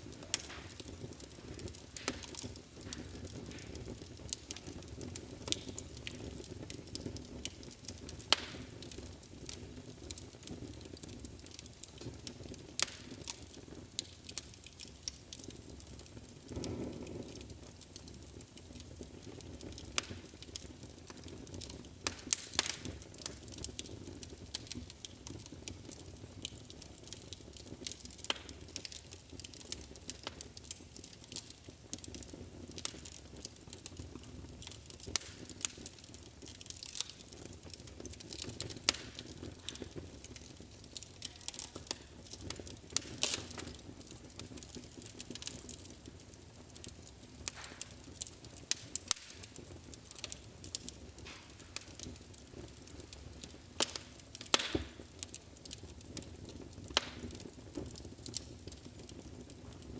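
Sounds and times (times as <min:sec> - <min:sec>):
fire burning in a fireplace: 0:00.0 - 0:59.9
wood crackling and popping: 0:00.0 - 0:59.9.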